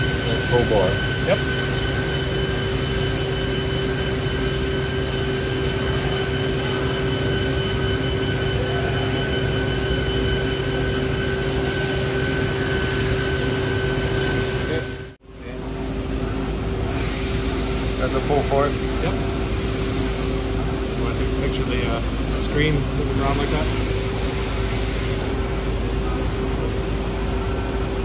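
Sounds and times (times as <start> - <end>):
machine hum with high whine: 0.0 - 28.0.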